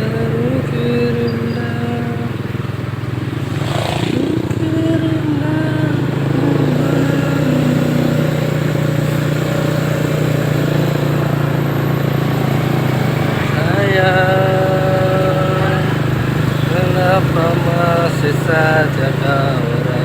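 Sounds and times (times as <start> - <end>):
man singing: 0.0 - 2.6, 4.1 - 12.1, 13.0 - 20.0
motorcycle engine running: 0.0 - 20.0.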